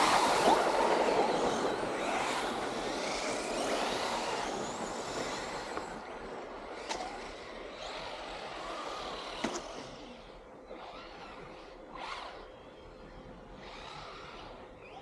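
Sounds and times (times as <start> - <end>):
distant vehicles: 0.0 - 15.0.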